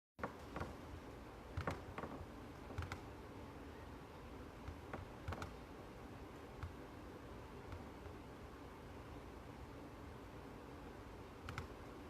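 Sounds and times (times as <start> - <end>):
faint steady hiss: 0.2 - 12.0.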